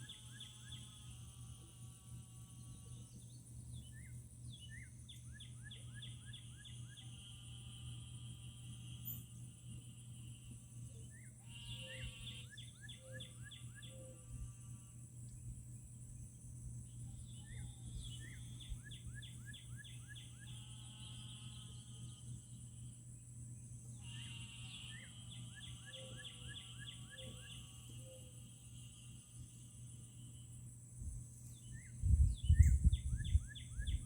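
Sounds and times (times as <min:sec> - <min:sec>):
songbird singing: 0:00.0 - 0:01.3, 0:02.1 - 0:07.5, 0:10.5 - 0:14.5, 0:15.2 - 0:34.0
steady high-pitched hum: 0:00.0 - 0:34.0.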